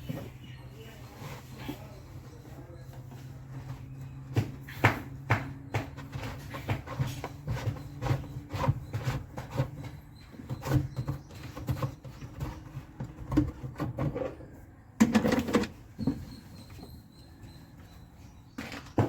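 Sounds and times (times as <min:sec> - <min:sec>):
scraping on plastic: 0:00.0 - 0:19.0.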